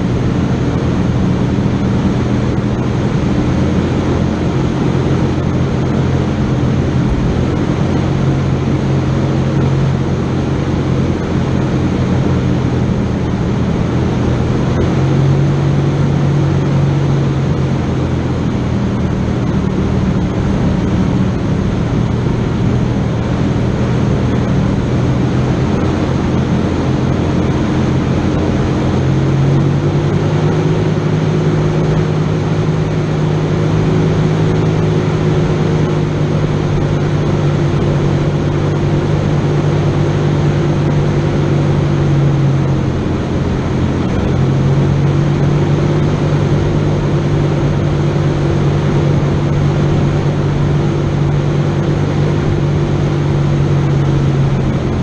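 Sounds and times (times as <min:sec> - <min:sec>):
vehicle engine running at low revs: 0:00.0 - 0:55.0.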